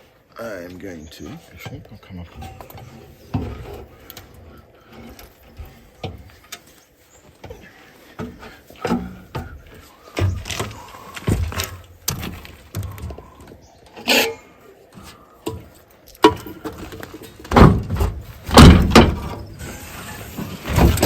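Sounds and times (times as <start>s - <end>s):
metal clunks and knocks: 1.3s - 6.7s, 7.4s - 13.3s, 15.0s - 21.0s.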